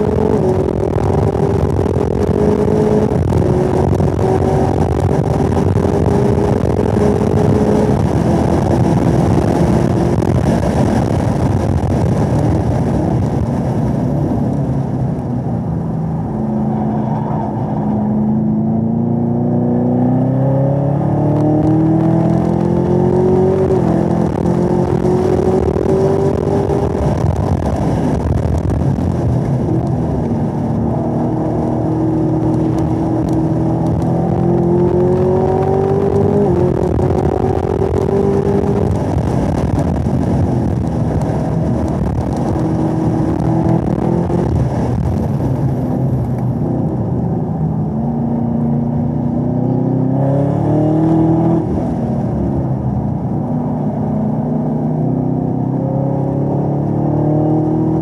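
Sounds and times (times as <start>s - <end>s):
car engine at full throttle: 0.0s - 58.0s.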